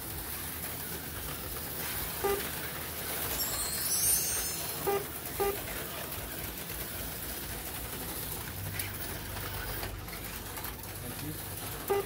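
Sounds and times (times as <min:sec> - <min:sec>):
slot car motors whirring: 0:00.0 - 0:12.0.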